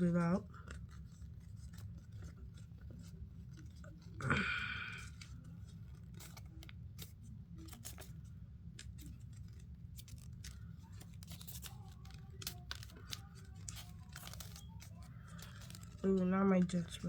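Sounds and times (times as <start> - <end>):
paper rustling and crinkling: 0.0 - 17.0
steady low hum: 0.0 - 17.0.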